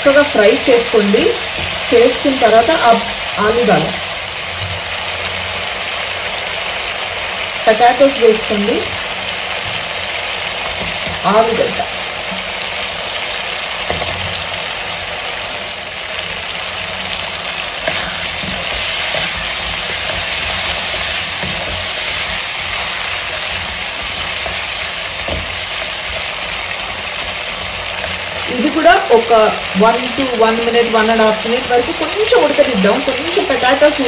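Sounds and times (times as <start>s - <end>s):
potatoes sizzling in pan: 0.0s - 34.0s.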